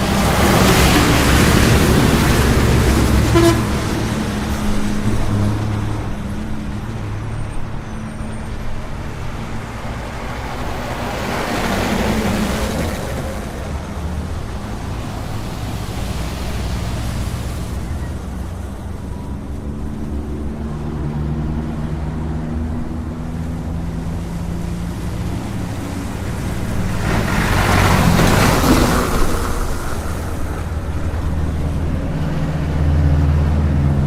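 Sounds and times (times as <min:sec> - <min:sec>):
highway traffic rumble: 0:00.0 - 0:34.0
vehicle passing by: 0:00.0 - 0:34.0.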